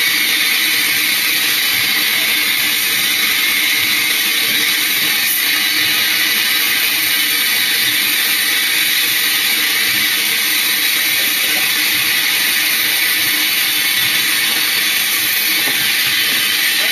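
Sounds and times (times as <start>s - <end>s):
steam locomotive hissing: 0.0s - 16.9s.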